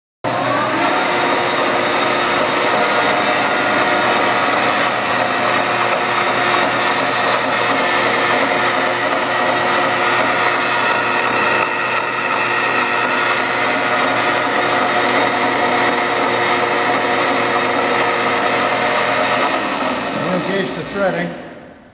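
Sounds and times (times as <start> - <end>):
lathe mechanical whine: 0.3 - 21.9.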